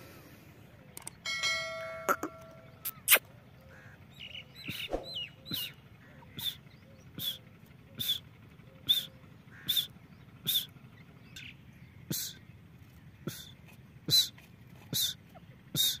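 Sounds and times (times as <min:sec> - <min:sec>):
bird calling sharp calls: 0:02.1 - 0:16.0.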